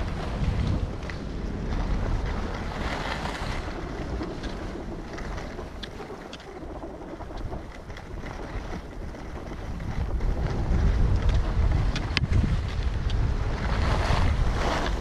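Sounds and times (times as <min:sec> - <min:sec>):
skis scraping over snow: 0:00.0 - 0:15.0
wind rushing over microphone: 0:00.0 - 0:15.0.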